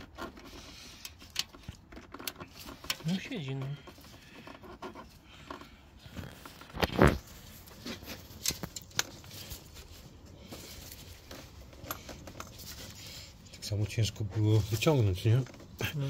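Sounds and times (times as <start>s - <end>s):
rubber hose rubbing and scraping: 0.0s - 16.0s.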